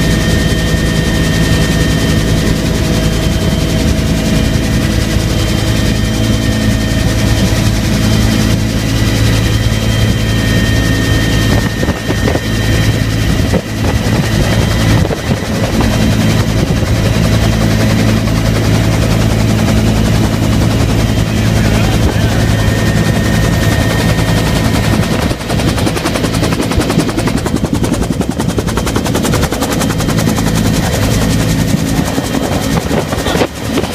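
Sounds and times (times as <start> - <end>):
helicopter rotor drone: 0.0 - 33.9
high turbine whine: 0.0 - 33.9.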